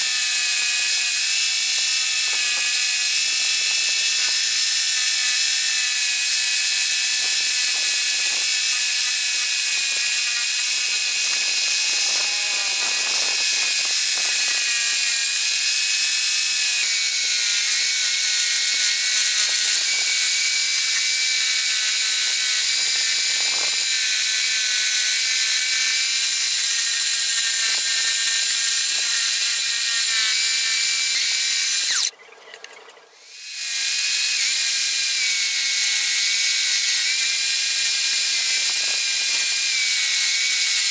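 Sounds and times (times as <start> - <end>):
scroll saw cutting wood: 0.0 - 32.1, 33.2 - 40.9.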